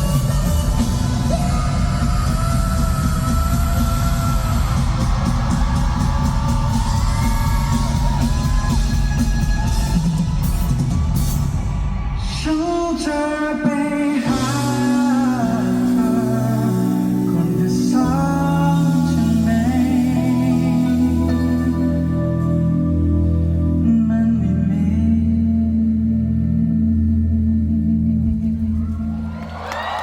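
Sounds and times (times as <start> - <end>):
person singing: 0.0 - 10.6, 12.2 - 29.3
live pop-rock band: 0.0 - 30.0.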